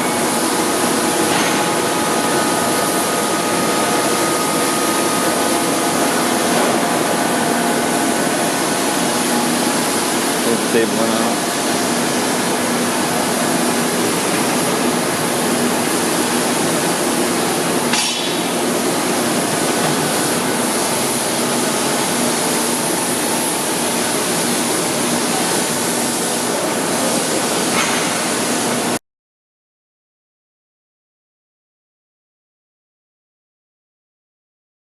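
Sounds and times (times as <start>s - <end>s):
surface grinder hissing: 0.0s - 28.7s.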